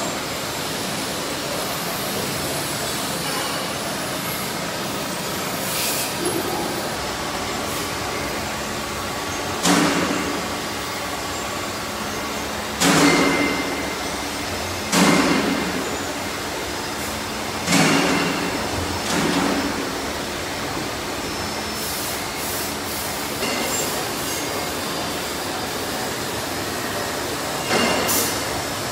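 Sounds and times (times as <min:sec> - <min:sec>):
workshop machinery noise: 0:00.0 - 0:28.9.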